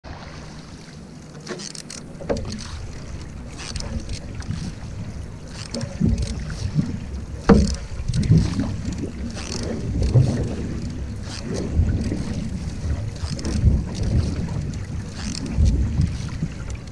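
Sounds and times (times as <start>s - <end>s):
paddle strokes splashing: 0.0s - 16.9s
water running along hull: 0.0s - 16.9s
wind rumble on microphone: 2.3s - 16.9s.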